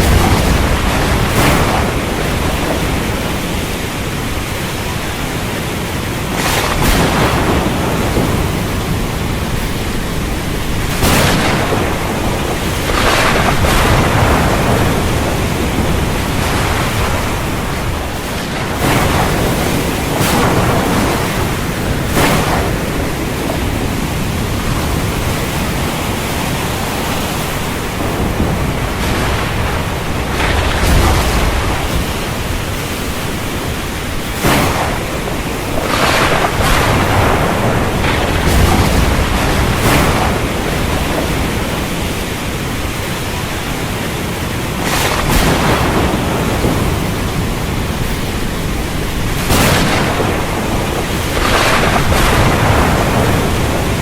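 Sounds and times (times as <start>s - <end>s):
rough ocean surf: 0.0s - 54.0s
stormy wind: 0.0s - 54.0s.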